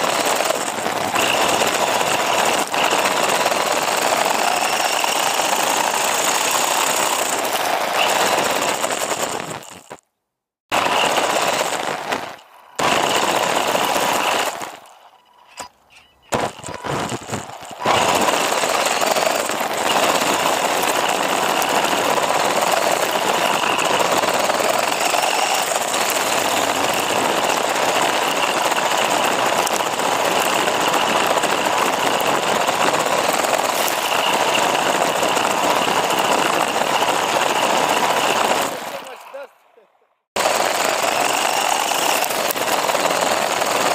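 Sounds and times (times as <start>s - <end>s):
chassis rattle: 0.0s - 10.0s, 10.7s - 39.6s, 40.4s - 43.9s
rc car motor whine: 0.0s - 10.0s, 10.7s - 39.5s, 40.4s - 43.9s
tyres on dirt: 0.0s - 10.1s, 10.7s - 43.9s.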